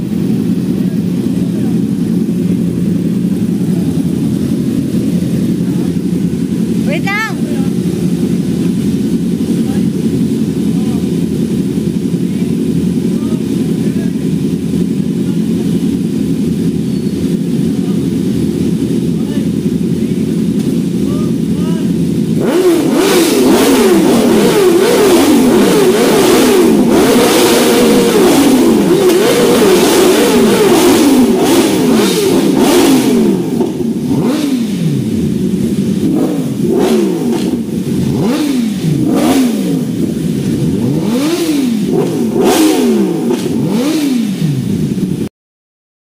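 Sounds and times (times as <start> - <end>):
motorcycle engines revving: 0.0 - 45.3.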